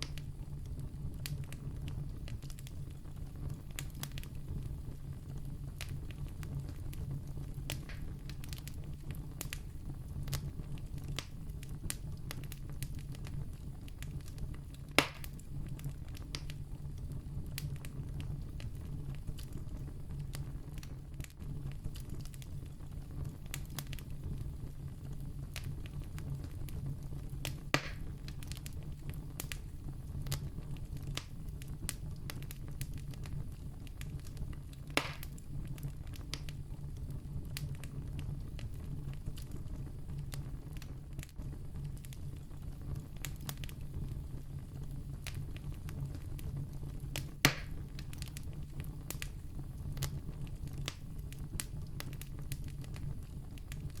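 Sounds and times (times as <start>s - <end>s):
campfire crackling: 0.0s - 54.0s
loud fire pops: 0.0s - 54.0s.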